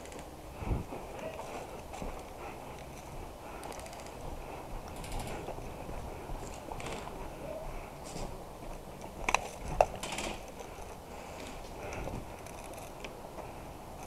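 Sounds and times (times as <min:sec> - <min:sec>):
gear rattling and rustling: 0:00.0 - 0:08.3, 0:09.1 - 0:13.5.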